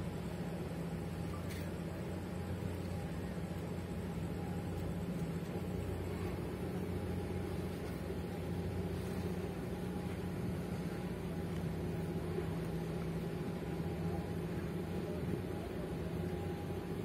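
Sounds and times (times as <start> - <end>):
ship engine hum: 0.0 - 17.0.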